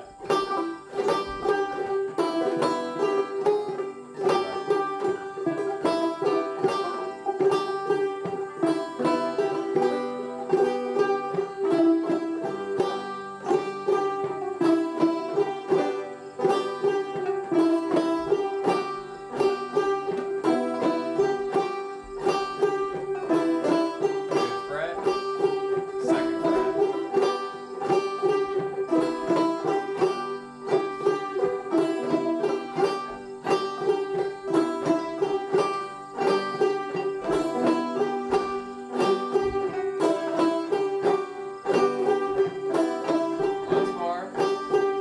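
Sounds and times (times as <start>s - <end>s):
banjo playing old-time tune: 0.0s - 45.0s.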